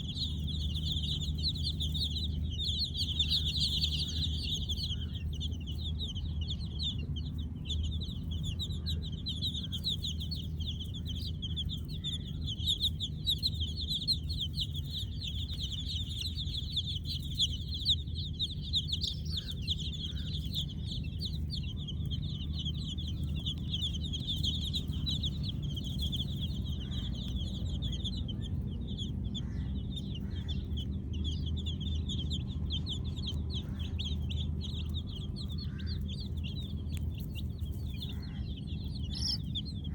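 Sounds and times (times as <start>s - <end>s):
baby chicks chirping: 0.0s - 39.9s
steady low hum: 0.0s - 39.9s.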